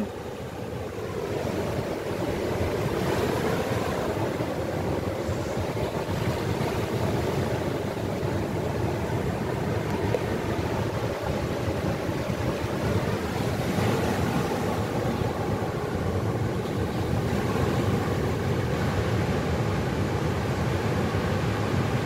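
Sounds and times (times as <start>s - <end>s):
ocean surf breaking: 0.0s - 22.0s
wind rumbling on microphone: 0.0s - 22.0s.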